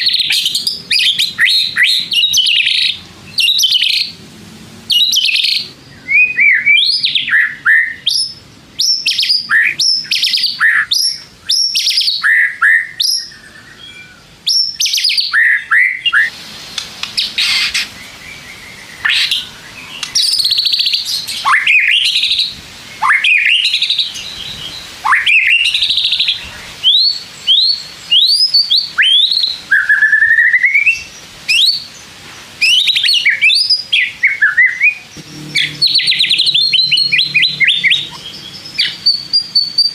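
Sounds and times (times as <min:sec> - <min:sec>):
bird singing varied song: 0:00.0 - 0:04.2, 0:04.8 - 0:39.9.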